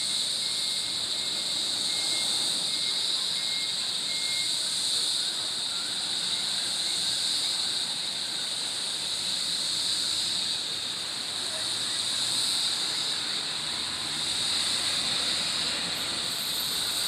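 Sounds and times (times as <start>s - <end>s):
forest insects buzzing: 0.0s - 17.0s.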